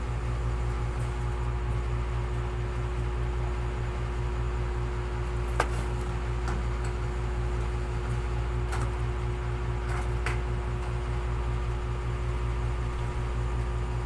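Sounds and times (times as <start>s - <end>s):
machine hum with pulsing drone: 0.0s - 14.0s.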